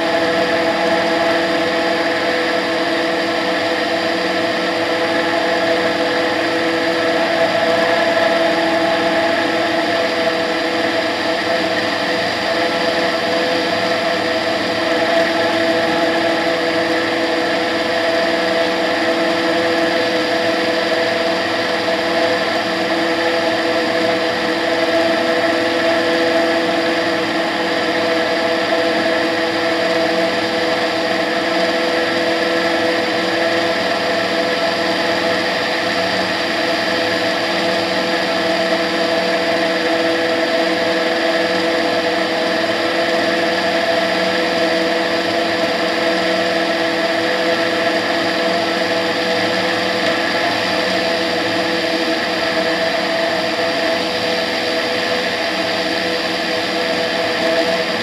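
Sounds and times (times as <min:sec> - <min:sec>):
aircraft engine and propeller drone: 0:00.0 - 0:58.0.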